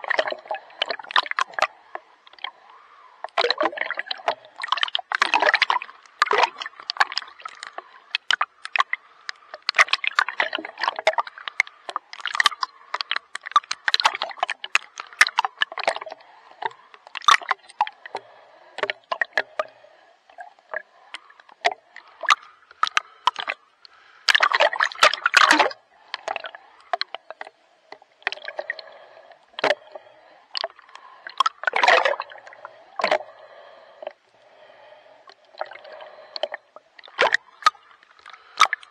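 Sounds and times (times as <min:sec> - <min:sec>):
water splashing and sloshing: 0:00.0 - 0:38.9.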